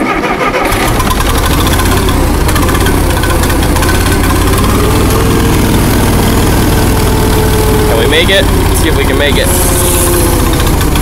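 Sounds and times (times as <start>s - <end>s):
tractor engine running with a miss: 0.0s - 11.0s.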